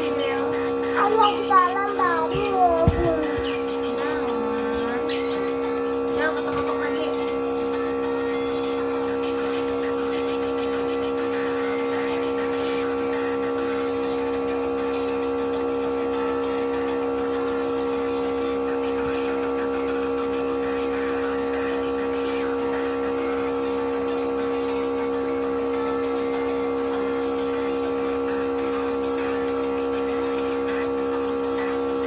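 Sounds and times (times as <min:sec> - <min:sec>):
nebulizer compressor humming: 0:00.0 - 0:32.0.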